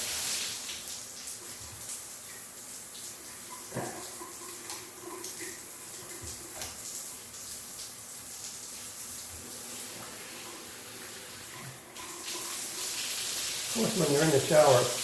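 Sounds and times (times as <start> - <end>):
shower water splashing on tub: 0.0 - 15.0.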